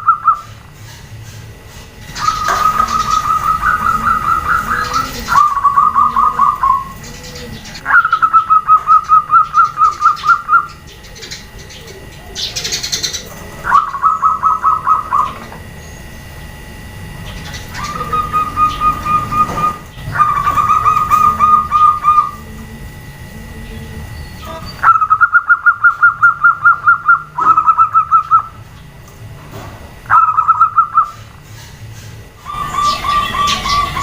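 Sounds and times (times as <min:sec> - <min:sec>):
doves cooing: 0:00.0 - 0:34.0.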